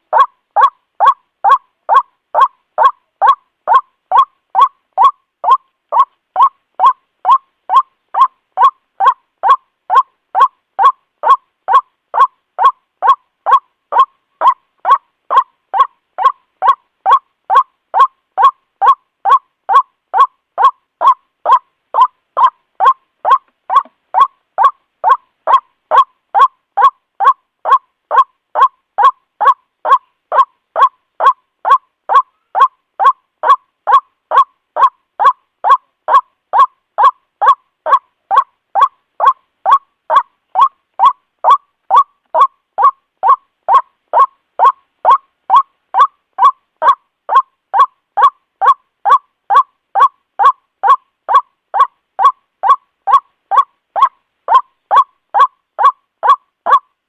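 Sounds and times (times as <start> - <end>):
waterhen kwak call: 0.0 - 56.9.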